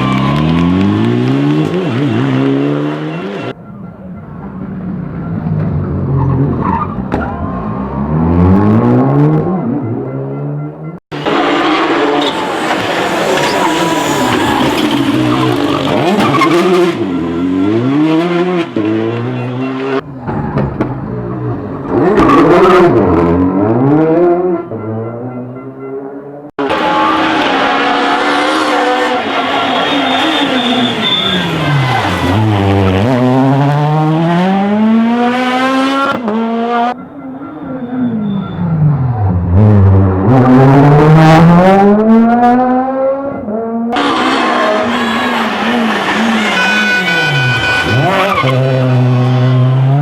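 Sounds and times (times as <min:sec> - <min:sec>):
rally car engine revving: 0:00.0 - 0:03.6, 0:05.6 - 0:50.0.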